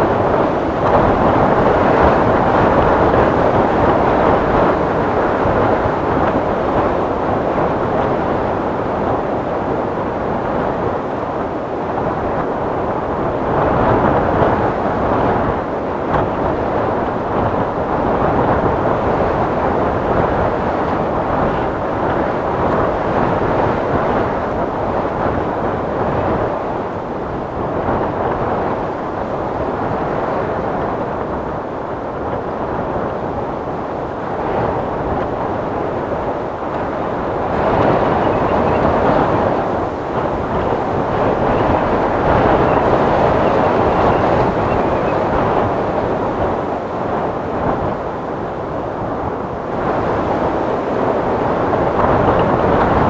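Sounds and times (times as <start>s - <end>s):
gusting wind rush: 0.0s - 53.0s.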